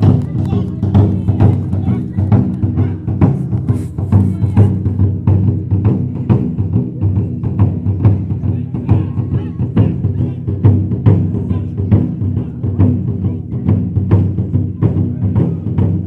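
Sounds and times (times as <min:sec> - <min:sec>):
ensemble of drums booming: 0:00.0 - 0:16.0.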